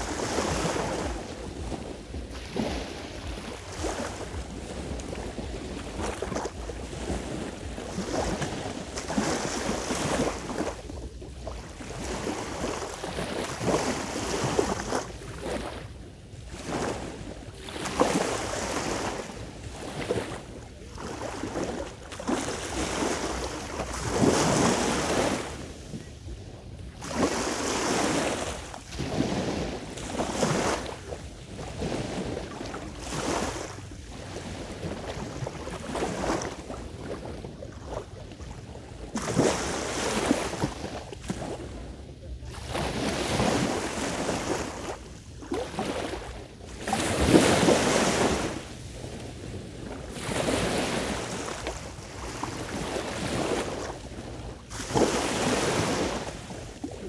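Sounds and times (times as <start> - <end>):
sea waves washing in: 0.0 - 57.0
wind noise on microphone: 0.0 - 57.0.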